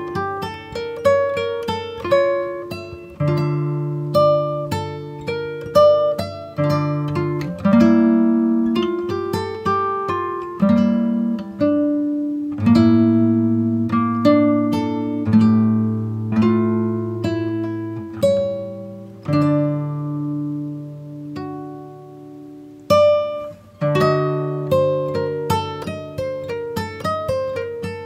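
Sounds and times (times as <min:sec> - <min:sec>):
plucked string instrument music: 0:00.0 - 0:28.0.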